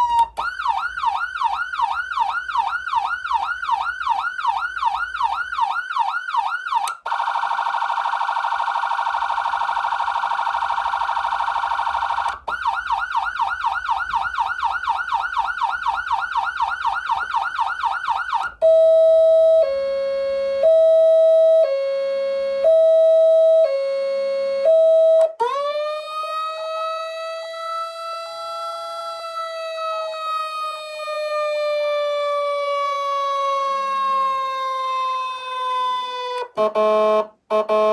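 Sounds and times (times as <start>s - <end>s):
electronic siren changing tones: 0.0s - 37.9s.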